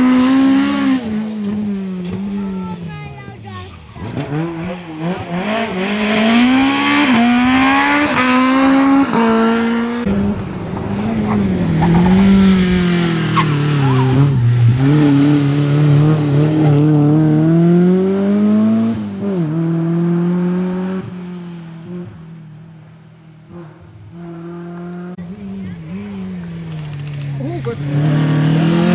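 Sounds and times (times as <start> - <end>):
rally car engine revving: 0.0 - 2.9, 3.7 - 22.2, 23.4 - 28.9.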